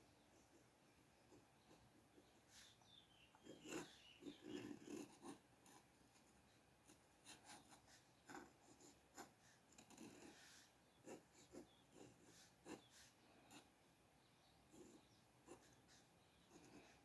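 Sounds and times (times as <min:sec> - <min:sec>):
drawing tool scratching on paper: 0:01.2 - 0:13.7, 0:14.7 - 0:17.0.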